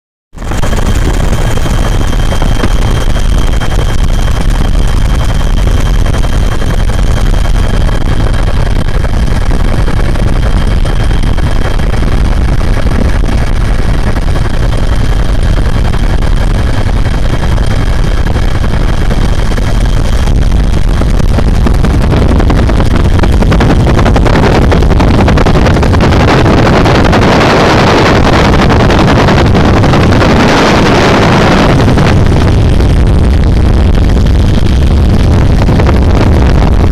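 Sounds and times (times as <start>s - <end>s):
helicopter engine and rotor: 0.4s - 36.9s
thin high whine: 0.4s - 36.9s.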